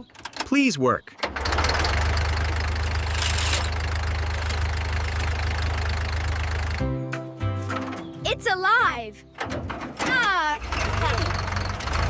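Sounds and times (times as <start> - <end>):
tractor engine running: 0.0 - 7.0, 9.3 - 12.0.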